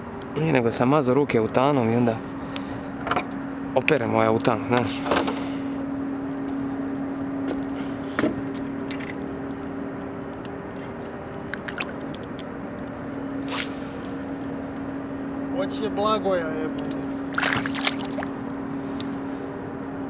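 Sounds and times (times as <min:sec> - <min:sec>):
boat motor running: 0:00.0 - 0:20.0.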